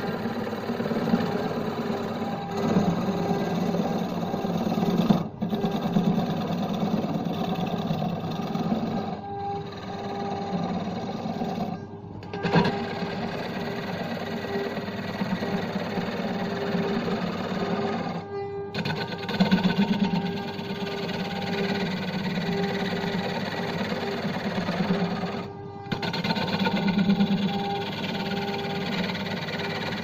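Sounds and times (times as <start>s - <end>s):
gouge cutting spinning wood: 0.0s - 18.2s, 18.8s - 30.0s
wood lathe hum: 0.0s - 30.0s.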